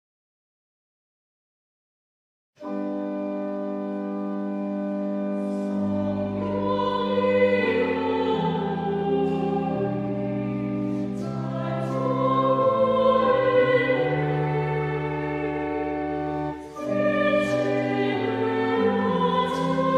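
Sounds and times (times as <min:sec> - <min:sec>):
organ chords: 0:02.6 - 0:19.9
choir singing a hymn: 0:03.4 - 0:19.9.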